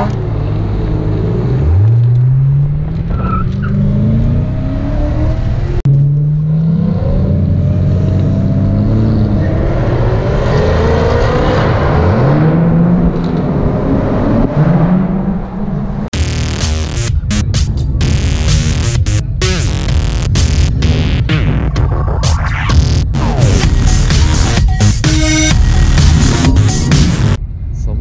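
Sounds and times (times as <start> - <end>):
car engine accelerating through gears: 0.0 - 24.8, 25.4 - 27.4.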